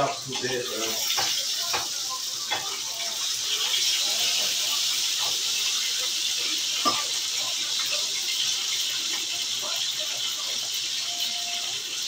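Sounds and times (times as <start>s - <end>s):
patties sizzling in a frying pan: 0.0s - 12.0s.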